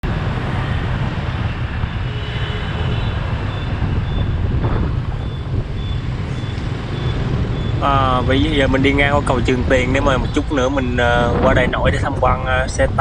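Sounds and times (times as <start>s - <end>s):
engine and tyre road rumble: 0.0s - 13.0s
wind on microphone: 0.0s - 13.0s.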